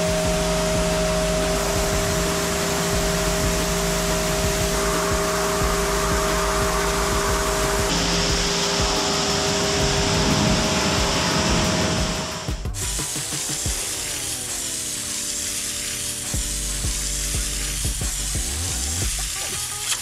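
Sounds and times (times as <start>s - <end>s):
music with a beat: 0.0s - 20.0s
pressure washer spraying: 0.0s - 20.0s.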